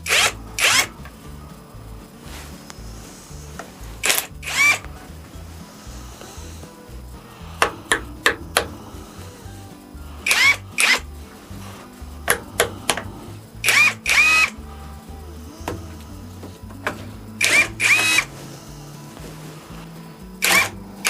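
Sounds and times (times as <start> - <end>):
background music: 0.0 - 21.0
power tool whining: 0.0 - 21.0.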